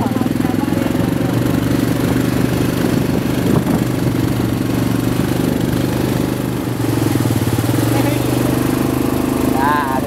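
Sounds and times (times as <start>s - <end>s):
quad bike engines running: 0.0s - 10.0s.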